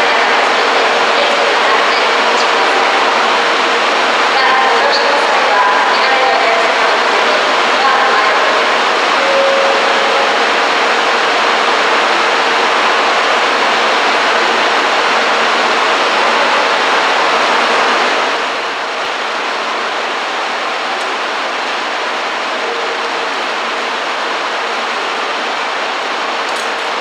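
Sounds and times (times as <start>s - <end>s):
electric train rolling: 0.0s - 27.0s.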